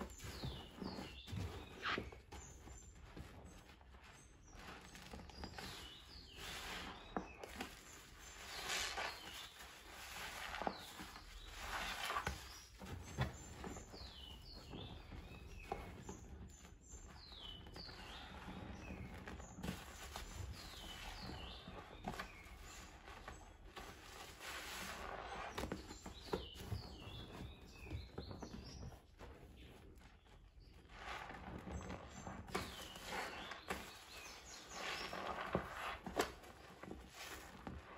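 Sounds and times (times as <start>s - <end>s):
sponges squelching: 0.0s - 16.6s, 17.5s - 27.6s, 30.2s - 37.9s.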